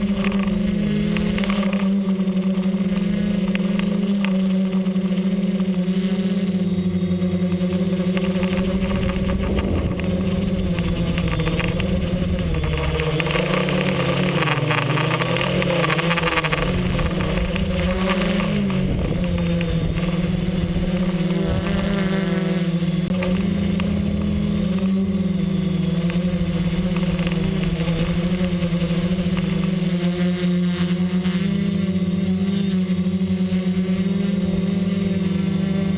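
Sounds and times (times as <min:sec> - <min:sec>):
drone motors humming: 0:00.0 - 0:35.9.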